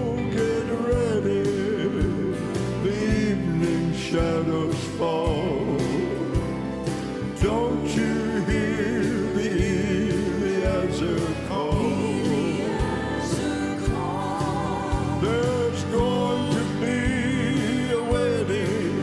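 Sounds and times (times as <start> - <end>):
drums: 0.0 - 19.0
group of singers: 0.0 - 19.0
organ: 0.0 - 19.0
piano: 0.0 - 19.0.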